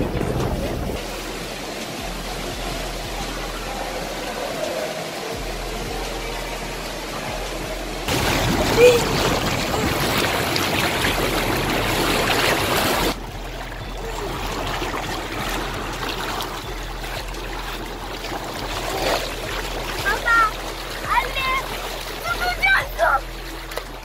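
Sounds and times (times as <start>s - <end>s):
hot tub jets bubbling: 0.0s - 24.0s.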